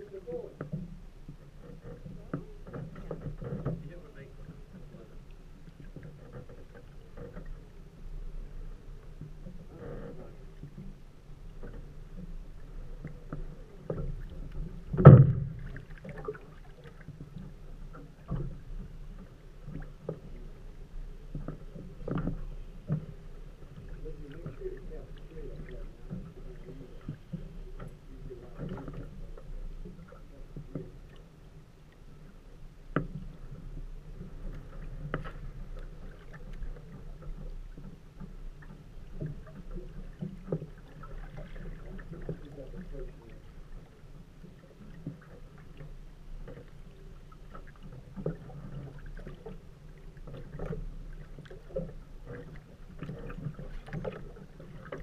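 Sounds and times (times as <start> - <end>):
knocks and clicks in boat: 0.0 - 55.0
waves lapping against boat hull: 0.0 - 55.0.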